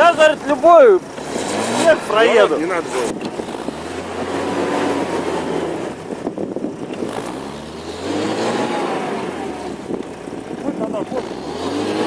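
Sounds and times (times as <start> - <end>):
car engine revving: 0.0 - 12.0
wheels spinning in snow: 0.0 - 12.0.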